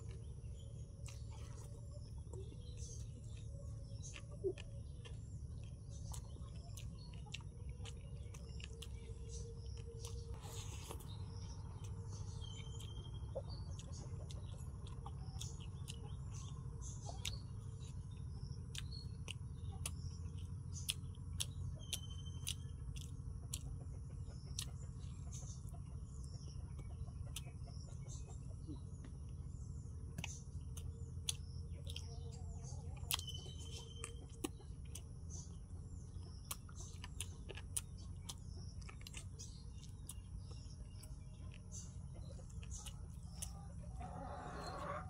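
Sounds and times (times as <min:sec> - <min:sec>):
chewing: 0:00.0 - 0:45.0
small birds chirping: 0:00.0 - 0:45.0
steady low rumble: 0:00.0 - 0:45.0.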